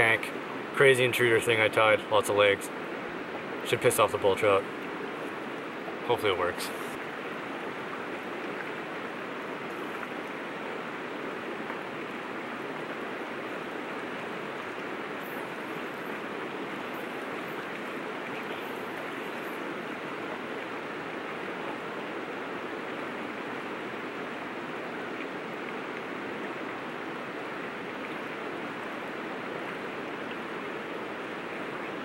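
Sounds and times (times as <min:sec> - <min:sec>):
river rushing over rocks: 0:00.0 - 0:32.0.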